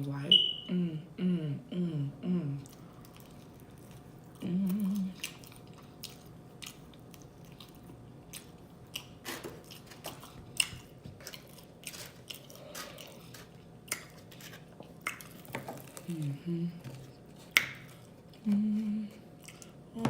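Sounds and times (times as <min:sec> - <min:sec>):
person chewing food: 0:02.6 - 0:19.9.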